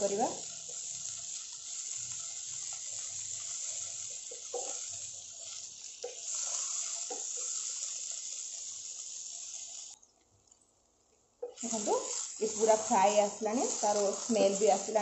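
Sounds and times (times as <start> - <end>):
food sizzling in oil: 0.0 - 10.0, 11.4 - 15.0.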